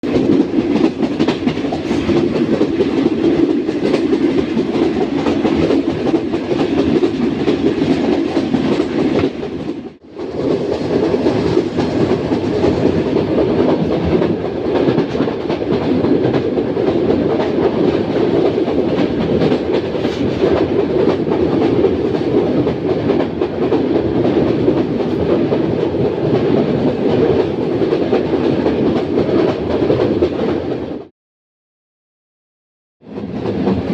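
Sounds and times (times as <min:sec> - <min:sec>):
train wheels on rails: 0:00.0 - 0:31.1, 0:33.0 - 0:33.9.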